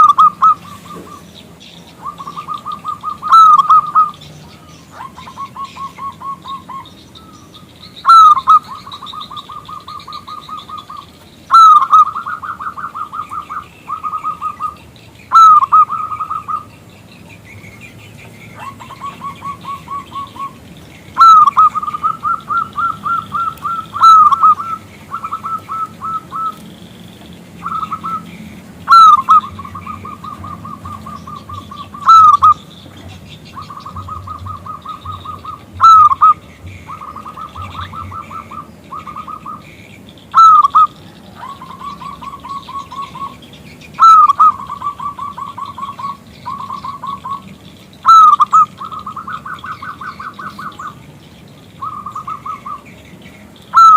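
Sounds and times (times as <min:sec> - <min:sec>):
dove calling: 0:00.0 - 0:53.9.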